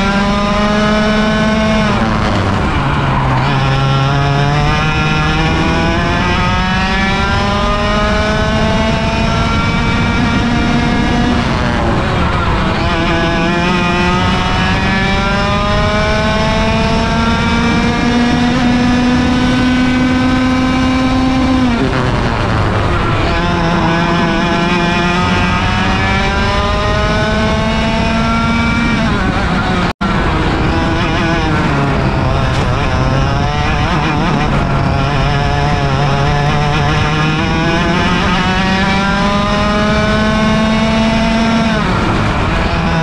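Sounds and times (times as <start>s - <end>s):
kart engine revving: 0.0s - 43.0s.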